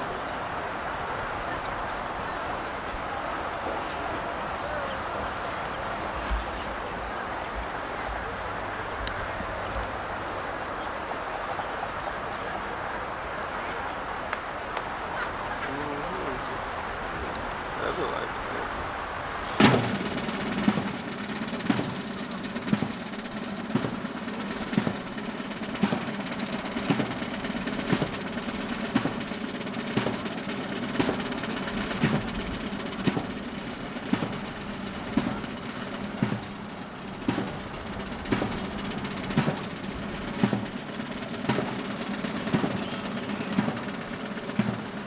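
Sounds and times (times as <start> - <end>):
marching band drum beat: 0.0 - 45.0.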